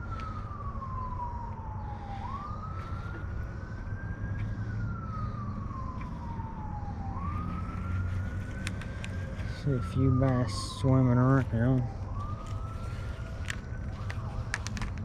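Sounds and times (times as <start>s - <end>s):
emergency siren wailing: 0.0s - 15.0s
steady low rumble: 0.0s - 15.0s.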